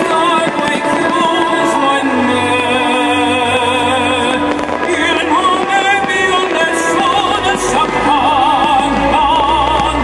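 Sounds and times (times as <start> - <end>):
loud music: 0.0 - 10.0.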